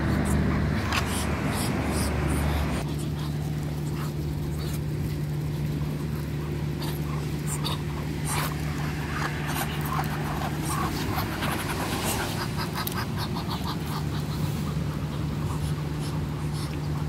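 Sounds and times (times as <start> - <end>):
ducks pecking corn: 0.0 - 17.0
ducks soft short calls: 0.0 - 17.0
steady low hum: 0.0 - 17.0.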